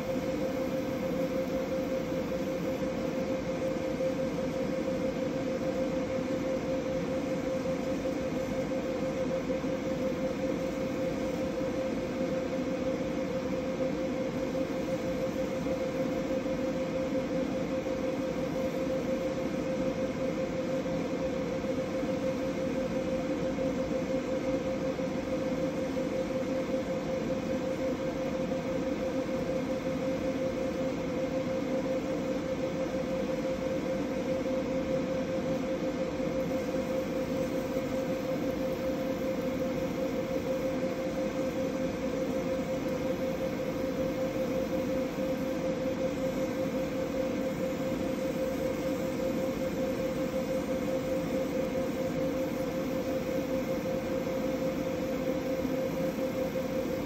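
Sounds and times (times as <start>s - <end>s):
laser engraver hum: 0.0s - 57.0s.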